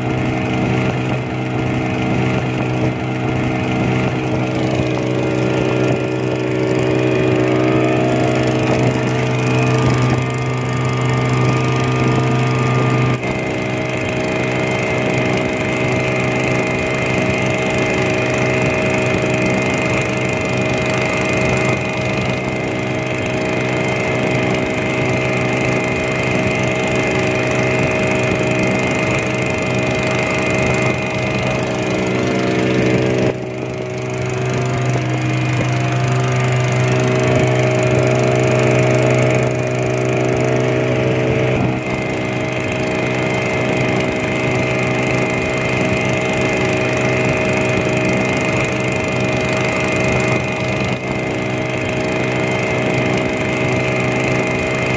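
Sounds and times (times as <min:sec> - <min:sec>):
small boat engine running: 0:00.0 - 0:54.9.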